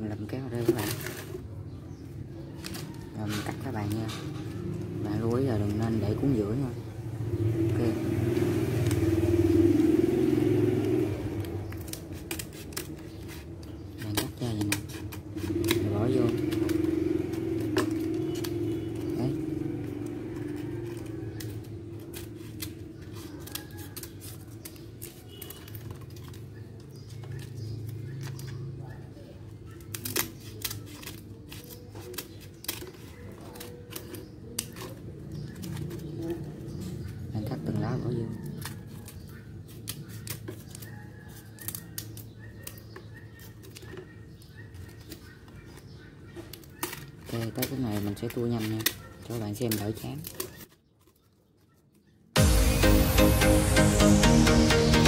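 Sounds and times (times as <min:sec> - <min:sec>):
scissors snipping dry leaves: 0:02.2 - 0:51.2.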